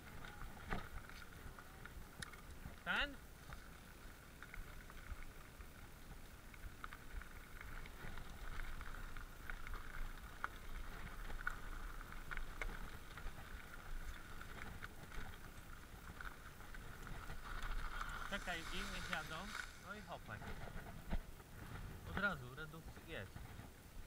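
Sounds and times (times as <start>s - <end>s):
bike tyres rolling on dirt: 0.0s - 24.0s.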